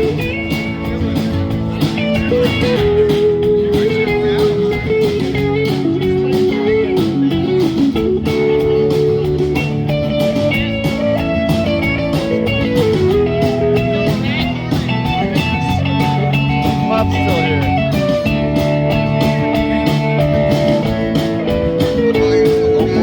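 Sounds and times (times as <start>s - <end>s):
drum beat: 0.0s - 23.0s
electric guitar melody: 0.0s - 23.0s.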